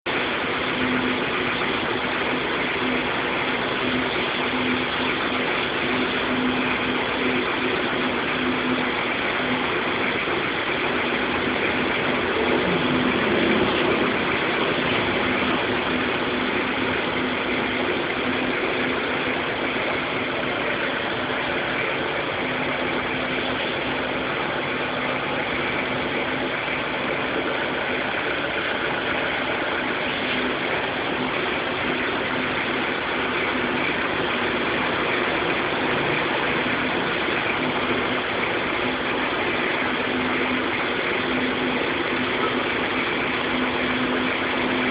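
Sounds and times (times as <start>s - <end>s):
engine-like running hum: 0.1s - 44.9s.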